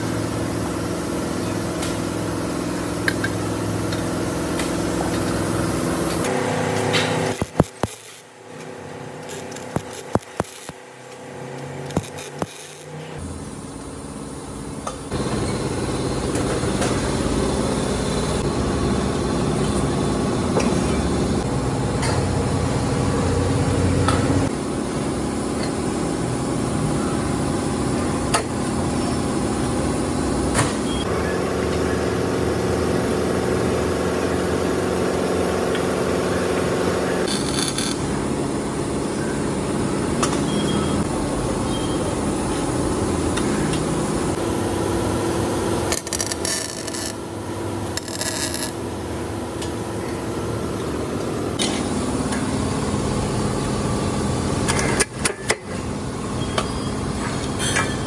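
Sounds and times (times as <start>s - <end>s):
workshop machine humming: 0.0s - 57.6s.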